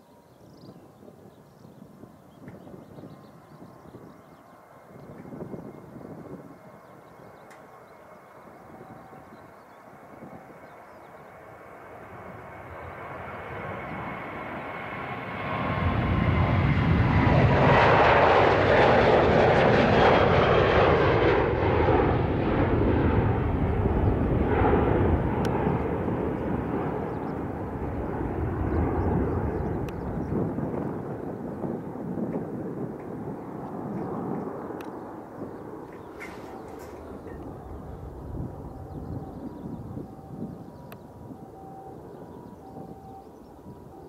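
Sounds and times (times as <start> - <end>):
jet engines at takeoff power: 0.1 - 44.0.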